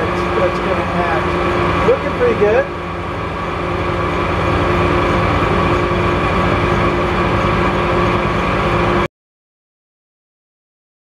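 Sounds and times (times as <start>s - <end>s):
low machine pulse: 0.0s - 9.1s
metal lathe humming: 0.0s - 9.1s.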